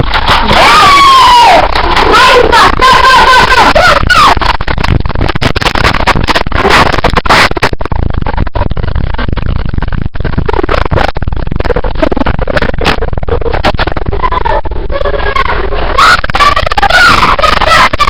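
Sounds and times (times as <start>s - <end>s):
distorted rapid knocks and clatter: 0.0s - 18.0s.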